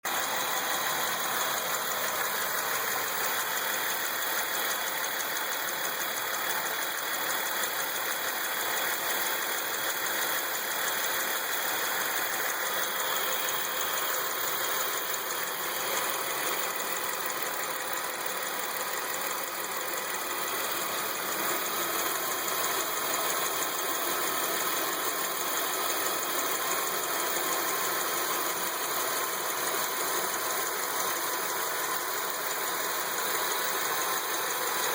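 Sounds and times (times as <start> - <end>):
car engine running: 0.0 - 34.9
engine ticking: 0.0 - 34.9.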